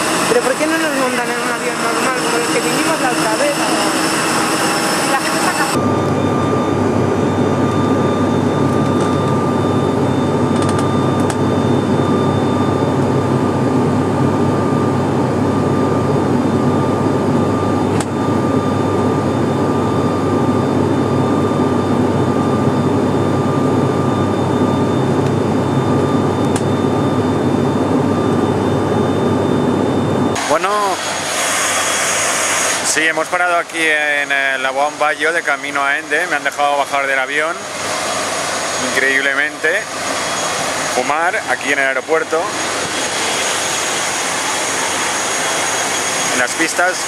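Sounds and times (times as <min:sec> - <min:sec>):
airplane cabin engine drone: 0:00.0 - 0:47.0
thin steady whine: 0:00.0 - 0:47.0.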